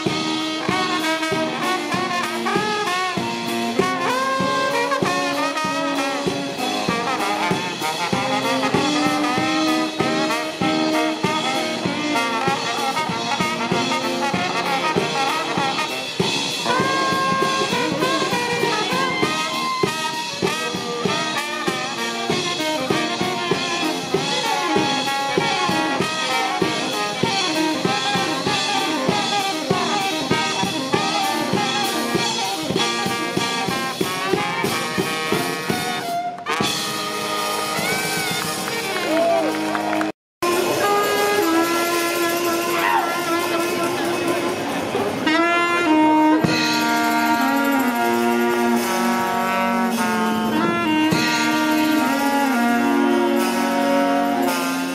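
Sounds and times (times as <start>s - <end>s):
brass instruments playing jazzy tune: 0.0s - 54.9s
drum kit: 0.0s - 54.9s.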